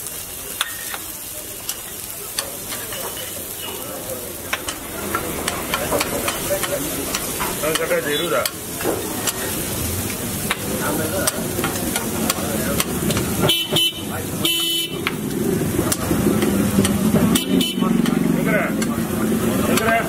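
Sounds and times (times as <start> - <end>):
egg sizzling on griddle: 0.0 - 20.0.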